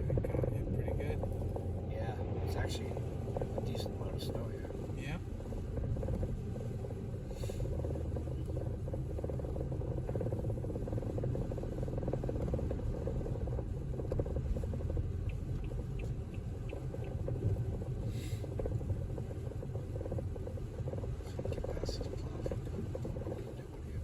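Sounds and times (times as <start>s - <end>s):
car cabin road rumble: 0.0s - 24.0s.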